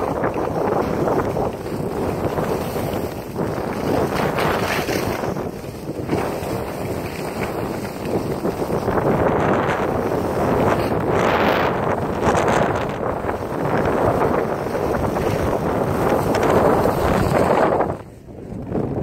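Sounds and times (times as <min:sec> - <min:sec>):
skis sliding on snow: 0:00.0 - 0:18.9
wind rushing over microphone: 0:00.0 - 0:19.0.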